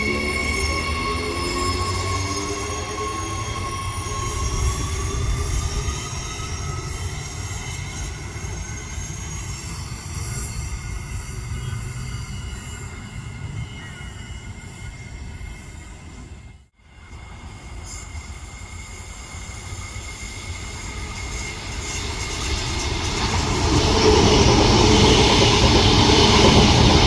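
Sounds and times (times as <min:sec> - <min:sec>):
high steady train whine: 0:00.0 - 0:27.0
train rumbling on track: 0:00.0 - 0:27.0.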